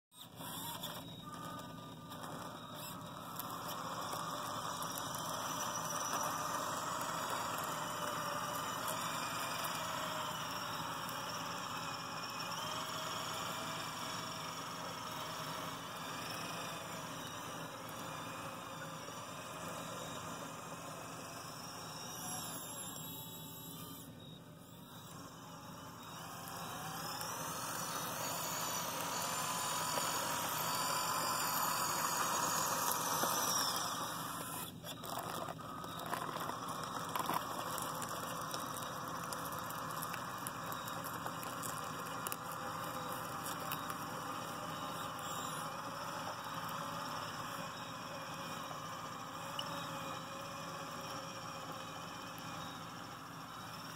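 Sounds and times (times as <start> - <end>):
electric motors whining: 0.2 - 53.9.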